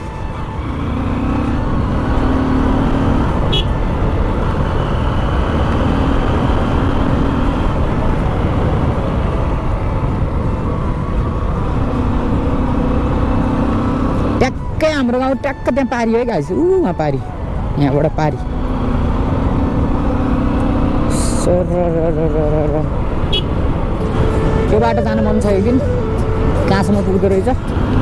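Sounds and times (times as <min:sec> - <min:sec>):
heavy wind rush: 0:00.0 - 0:13.6, 0:14.2 - 0:28.0.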